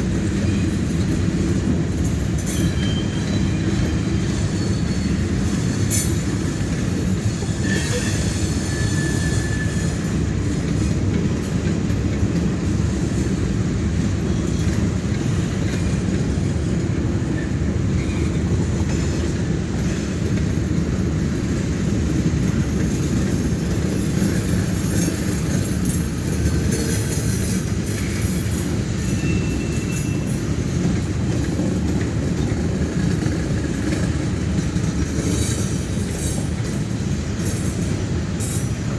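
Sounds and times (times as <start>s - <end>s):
train wheel squeals: 0.0s - 11.6s, 13.0s - 38.9s
train wheels rumbling on rails: 0.0s - 38.9s.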